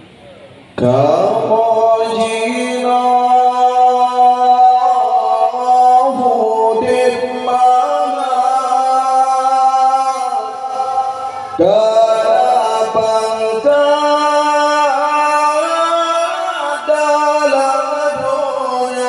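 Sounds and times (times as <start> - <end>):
man singing through a microphone: 0.8 - 19.0.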